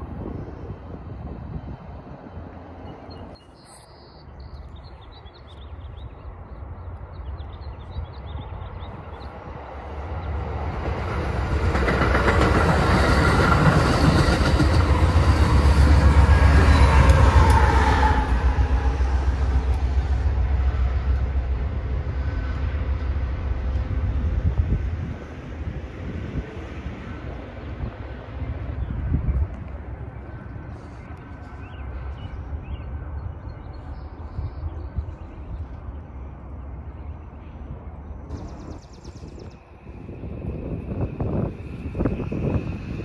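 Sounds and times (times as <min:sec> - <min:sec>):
passing train rumble: 0:00.0 - 0:43.0.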